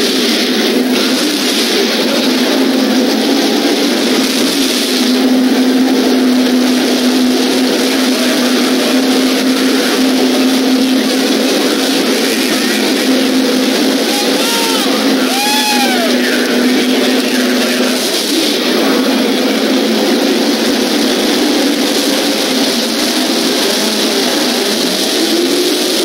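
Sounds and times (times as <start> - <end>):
drag racing engines droning: 0.0 - 26.0.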